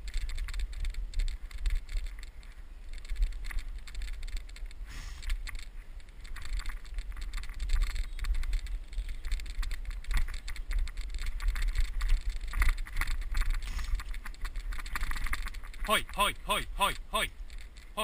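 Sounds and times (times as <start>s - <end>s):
bike frame rattling over bumps: 0.0s - 15.9s, 17.3s - 18.0s
wind on microphone: 0.0s - 18.0s.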